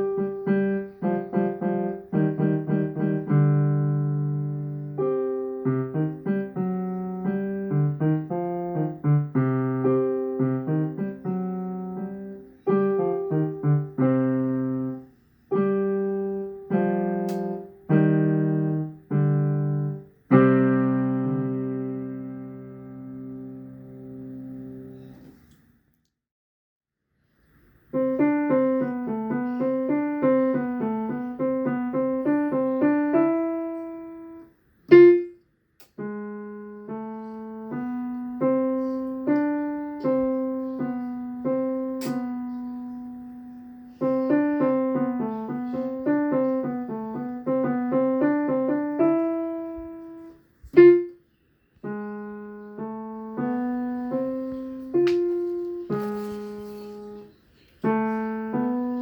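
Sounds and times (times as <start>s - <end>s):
solo piano melody: 0.0s - 25.5s, 27.8s - 59.0s.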